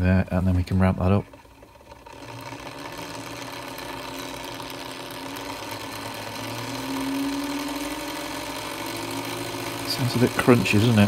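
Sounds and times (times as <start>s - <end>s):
gear motor humming: 0.0s - 11.0s.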